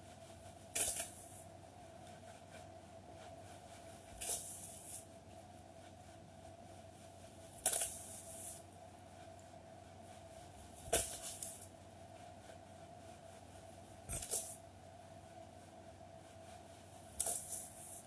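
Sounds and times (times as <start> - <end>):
faint steady hum: 0.0 - 18.0
rustling on yoga mat: 0.0 - 18.0.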